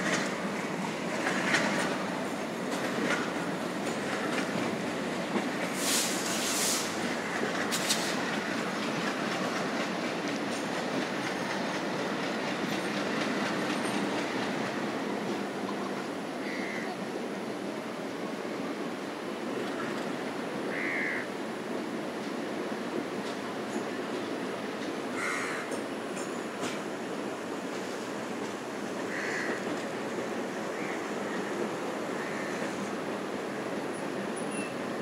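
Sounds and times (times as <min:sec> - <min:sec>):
train wheels on rails: 0:00.0 - 0:16.4, 0:17.2 - 0:35.0.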